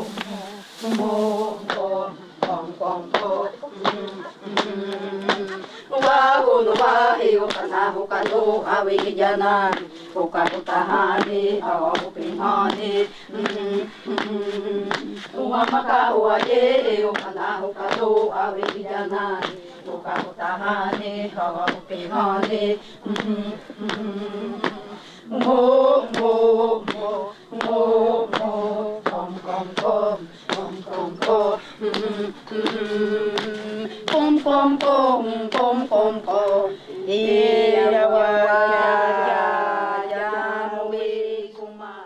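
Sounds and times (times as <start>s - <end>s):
women chanting in unison: 0.0s - 42.0s.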